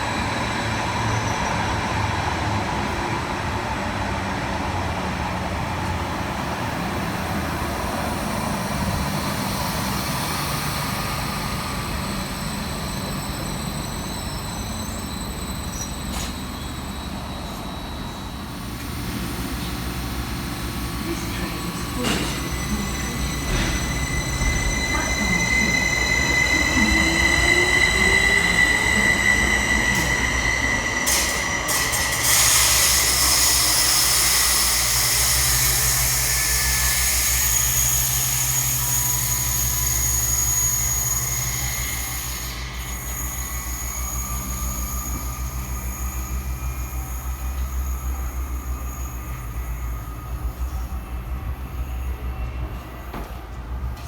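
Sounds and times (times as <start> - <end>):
train wheels squealing: 0.0 - 54.0.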